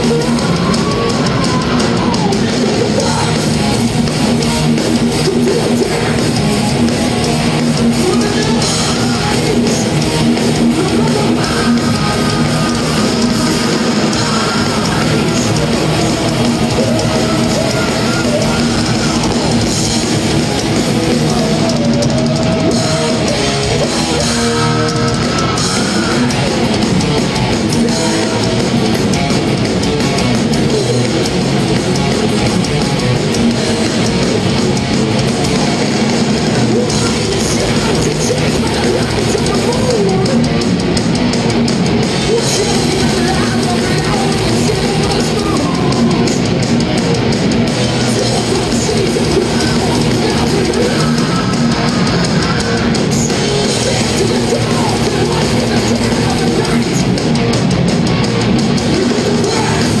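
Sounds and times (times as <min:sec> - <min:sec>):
thrash metal band playing live: 0:00.0 - 1:00.0.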